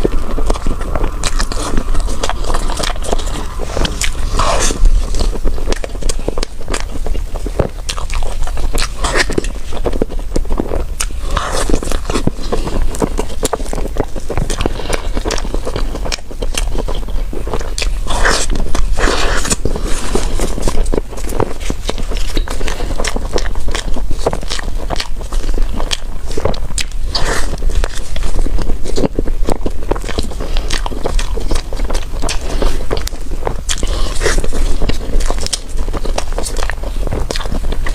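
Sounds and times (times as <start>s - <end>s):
person chewing crunchy bread: 0.0s - 37.9s.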